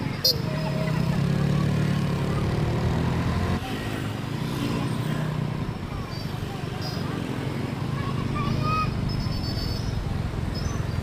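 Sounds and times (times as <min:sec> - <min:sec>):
auto-rickshaw engine running: 0:00.0 - 0:11.0
road noise: 0:00.0 - 0:11.0.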